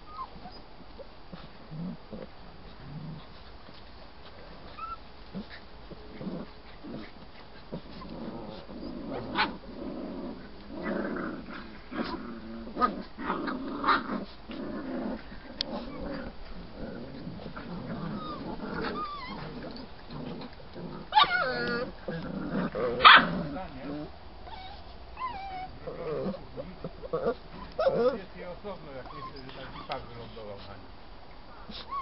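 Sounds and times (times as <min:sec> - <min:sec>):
puppy growling: 0:01.3 - 0:03.4, 0:04.3 - 0:30.6.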